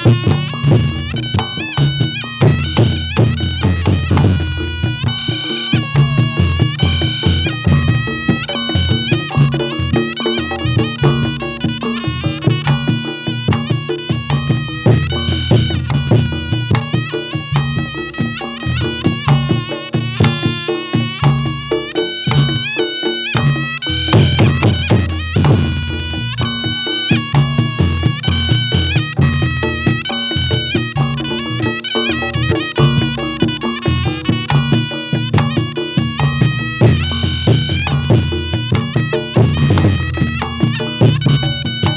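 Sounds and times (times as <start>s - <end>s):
rapid drumming: 0.0s - 41.9s
shawm reedy melody: 0.0s - 41.9s.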